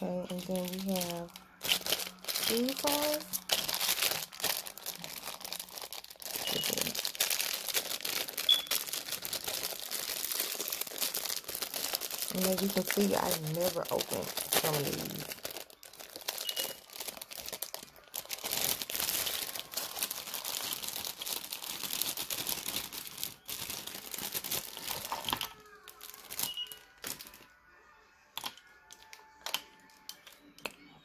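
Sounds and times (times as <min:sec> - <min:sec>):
plastic wrap crinkling and tearing: 0:00.0 - 0:27.6.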